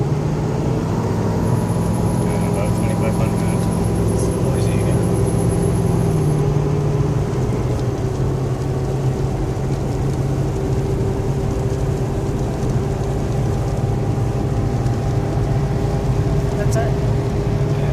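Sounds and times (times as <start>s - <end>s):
vehicle driving from inside: 0.0s - 17.9s.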